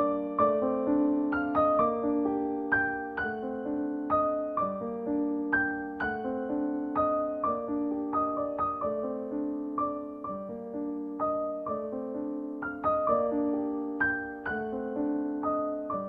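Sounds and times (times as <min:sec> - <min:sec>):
solo piano music: 0:00.0 - 0:16.0.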